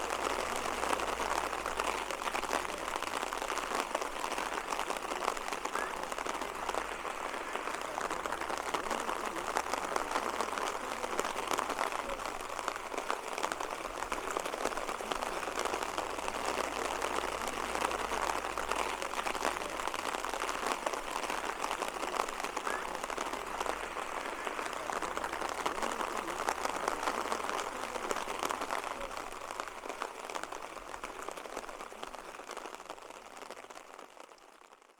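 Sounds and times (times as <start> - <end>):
steady rain patter: 0.0 - 34.9.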